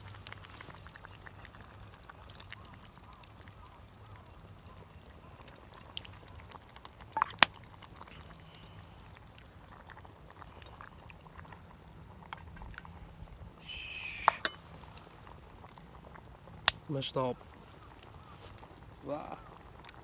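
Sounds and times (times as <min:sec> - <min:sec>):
faint background hiss: 0:00.0 - 0:20.0.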